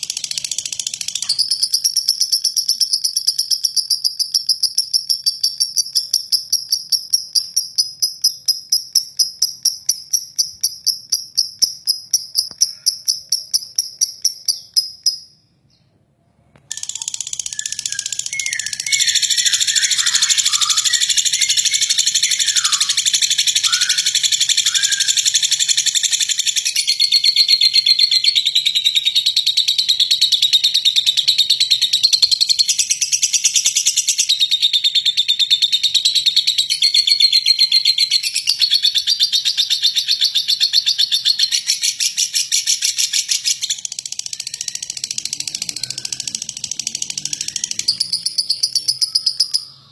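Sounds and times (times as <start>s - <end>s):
lovebird chattering trill: 0.0s - 15.3s, 16.7s - 49.9s
fast pulsed high chirping: 0.0s - 15.4s, 16.7s - 34.6s, 36.2s - 49.9s.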